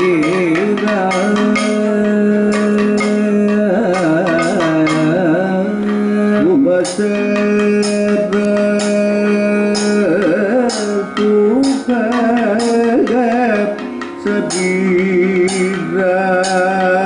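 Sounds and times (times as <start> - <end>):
person singing long ornamented notes: 0.0 - 17.0
sharp percussion strokes: 0.0 - 17.0.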